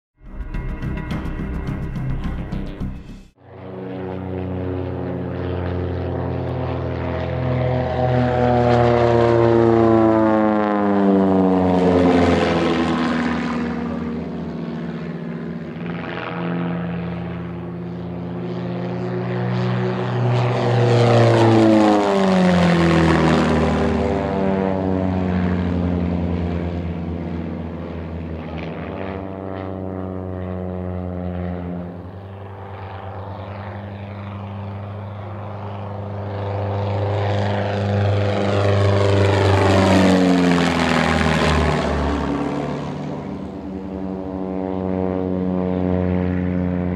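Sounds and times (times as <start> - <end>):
propeller plane engine passing: 0.2 - 46.9.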